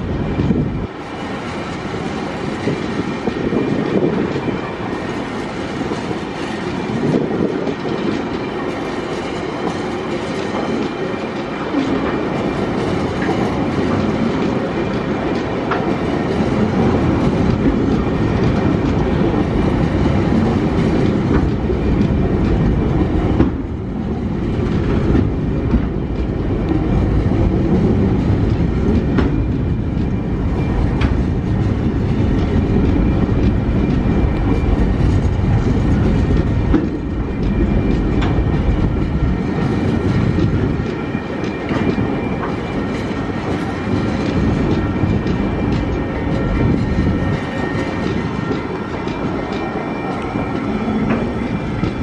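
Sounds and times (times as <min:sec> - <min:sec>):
clickety-clack over rail joints: 0:00.0 - 0:52.0
rumble of train wheels: 0:00.0 - 0:52.0.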